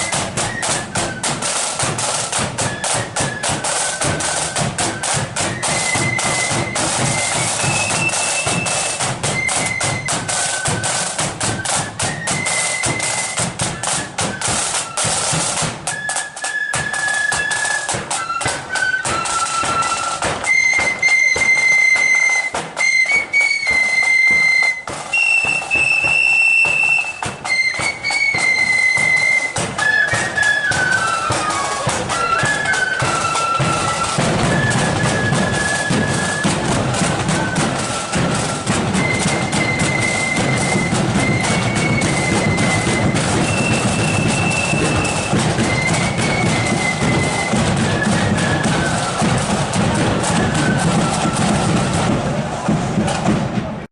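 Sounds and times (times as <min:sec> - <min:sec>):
drums beating time: 0:00.0 - 0:53.9
flutes playing in unison: 0:00.0 - 0:53.9.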